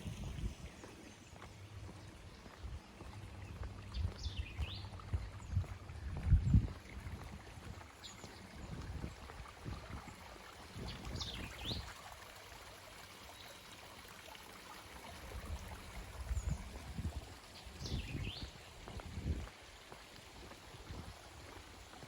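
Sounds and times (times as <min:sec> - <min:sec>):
creek water trickling over rocks: 0:00.0 - 0:22.0.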